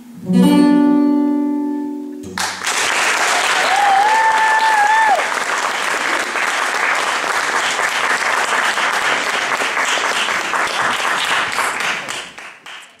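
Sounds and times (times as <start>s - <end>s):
audience applauding: 2.3s - 13.0s.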